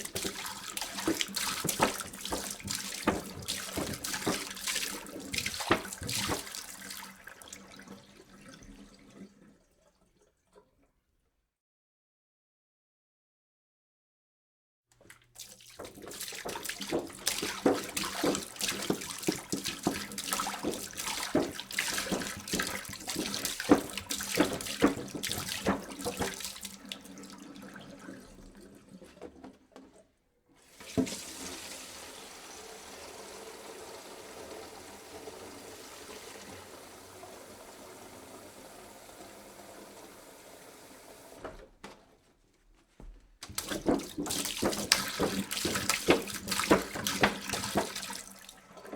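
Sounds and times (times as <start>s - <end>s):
water pouring into a jug: 0.0s - 10.8s, 15.0s - 30.0s, 30.6s - 41.4s, 43.5s - 48.9s.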